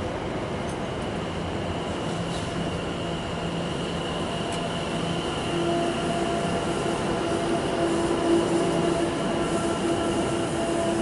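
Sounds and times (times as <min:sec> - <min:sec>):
electric train hum: 0:00.0 - 0:11.0
train wheels on rails: 0:00.0 - 0:11.0.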